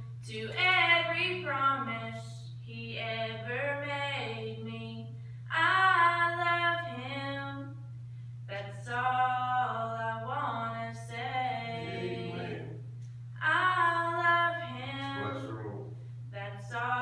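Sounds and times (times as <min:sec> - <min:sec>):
steady low hum: 0:00.0 - 0:17.0
woman singing gospel song: 0:00.2 - 0:07.8, 0:08.5 - 0:12.8, 0:13.4 - 0:15.5, 0:16.3 - 0:17.0.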